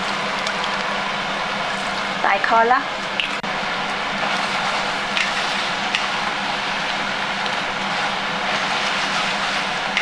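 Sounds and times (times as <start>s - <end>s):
noodles sizzling in frying pan: 0.0s - 10.0s.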